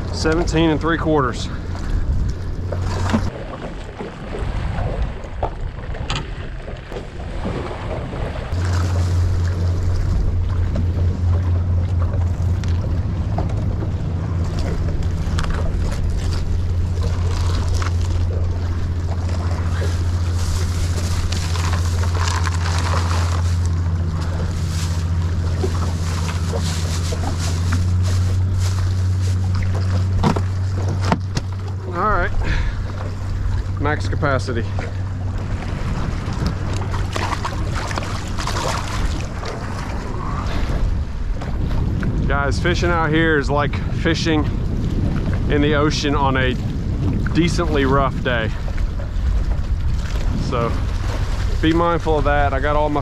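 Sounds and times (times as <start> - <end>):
choppy water against boat: 0.0 - 53.0
wind on microphone: 0.0 - 53.0
steady low machine hum: 7.0 - 53.0.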